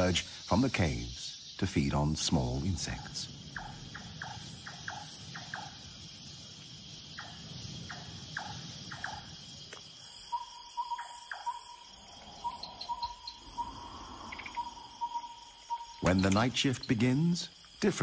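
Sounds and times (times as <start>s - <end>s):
crickets trilling: 0.0s - 18.0s
pulsing insect call: 0.0s - 18.0s.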